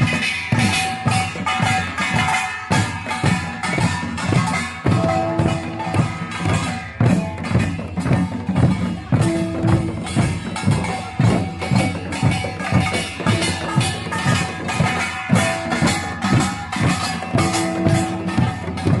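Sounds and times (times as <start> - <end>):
gongs ringing: 0.0 - 19.0
rapid drum strokes: 0.0 - 19.0.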